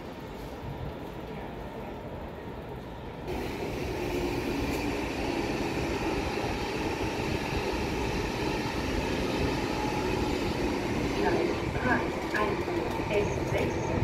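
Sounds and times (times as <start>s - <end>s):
rumble of train wheels on track: 0.0s - 14.0s.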